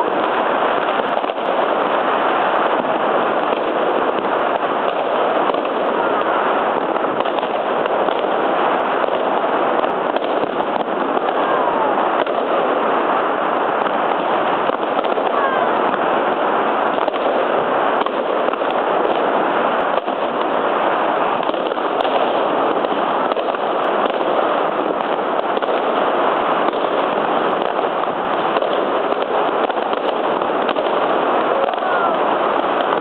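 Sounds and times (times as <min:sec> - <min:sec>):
fireworks bangs and crackles: 0:00.0 - 0:33.0
sharp firework cracks: 0:00.0 - 0:33.0.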